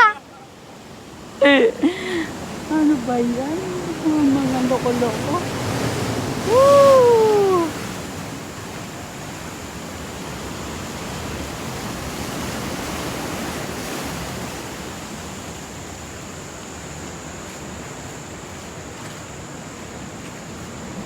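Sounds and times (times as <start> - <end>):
ocean waves washing in: 0.0 - 21.0.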